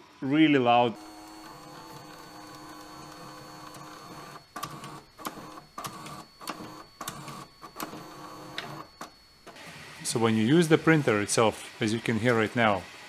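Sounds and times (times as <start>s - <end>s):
motor bursts: 0.0s - 13.0s
printer whirring: 0.1s - 13.0s.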